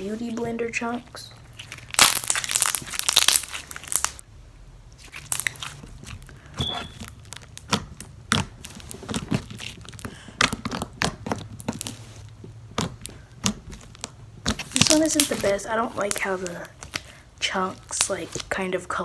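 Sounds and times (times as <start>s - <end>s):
slime squished by hands: 1.5s - 4.2s, 5.0s - 18.7s.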